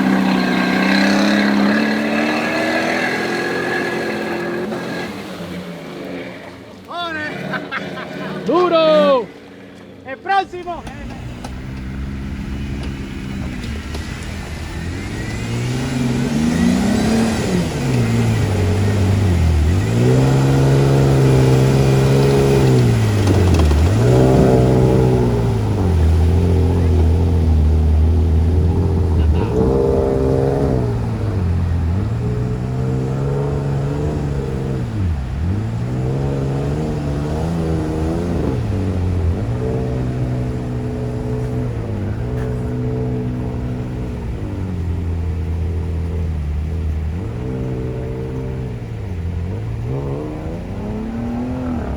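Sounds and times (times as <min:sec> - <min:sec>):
engine running and revving: 0:00.0 - 0:10.0, 0:10.6 - 0:51.9.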